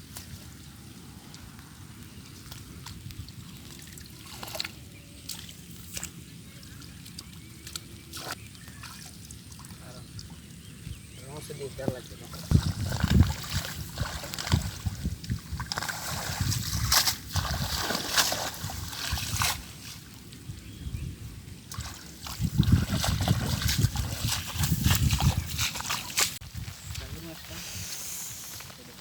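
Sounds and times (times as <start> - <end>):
water splashing and sloshing: 0.0 - 27.6.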